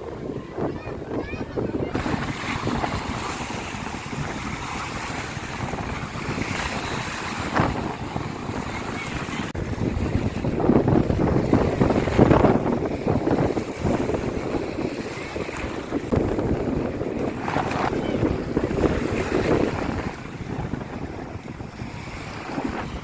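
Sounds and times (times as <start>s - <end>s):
waves washing on shore: 0.0s - 23.0s
wind buffeting microphone: 0.0s - 23.0s.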